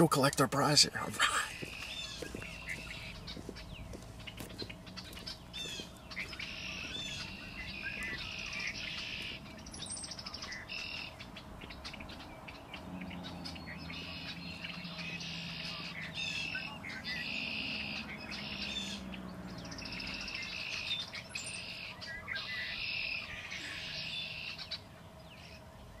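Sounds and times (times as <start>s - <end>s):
songbirds trilling and chirping: 0.0s - 26.0s.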